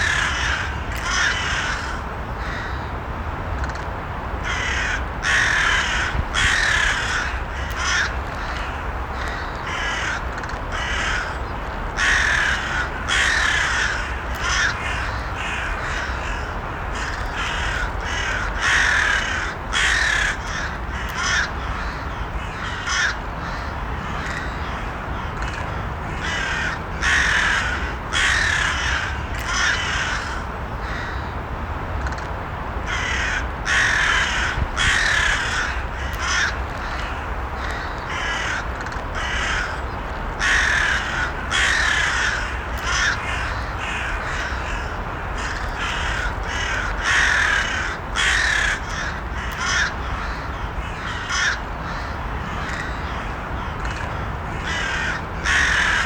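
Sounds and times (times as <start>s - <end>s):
crows cawing: 0.0s - 2.9s, 4.4s - 31.3s, 32.9s - 56.0s.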